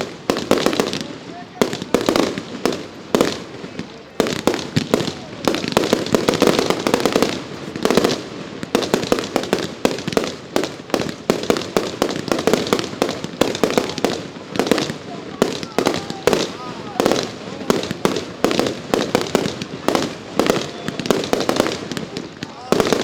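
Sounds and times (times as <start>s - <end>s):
fireworks bangs: 0.0s - 23.0s
fireworks crackle: 0.0s - 23.0s.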